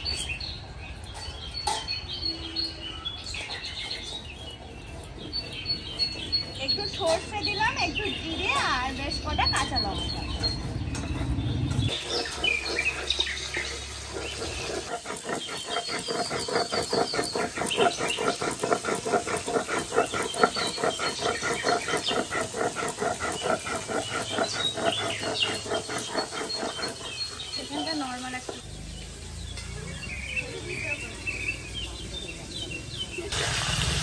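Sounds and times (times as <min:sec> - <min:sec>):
grinding stone scraping on slab: 0:01.3 - 0:29.0.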